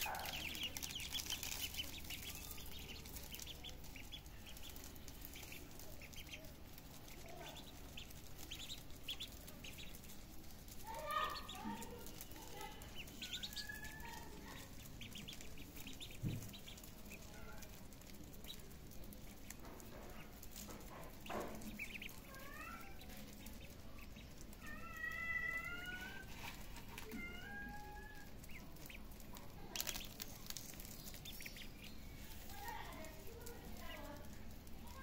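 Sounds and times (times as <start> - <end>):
ducklings peeping: 0.0 - 35.0.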